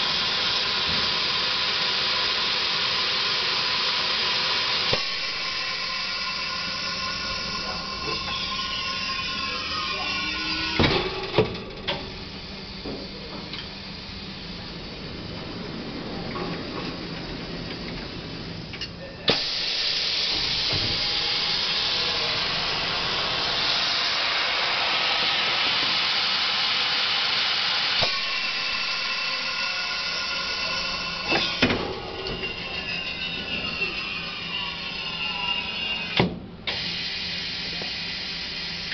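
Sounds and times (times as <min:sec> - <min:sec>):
heat press hissing: 0:00.0 - 0:14.7, 0:19.3 - 0:38.9.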